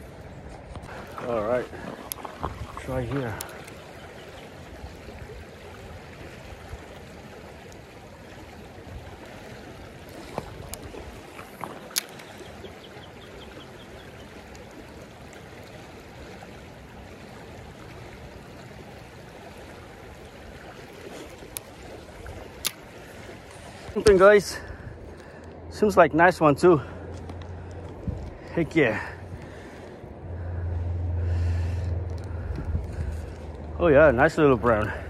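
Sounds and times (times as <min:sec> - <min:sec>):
creek water rushing: 0:00.0 - 0:35.0.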